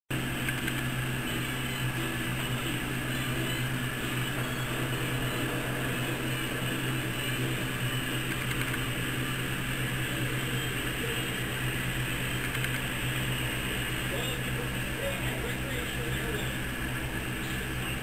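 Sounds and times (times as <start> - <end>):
machine hum with hiss: 0.1 - 18.0.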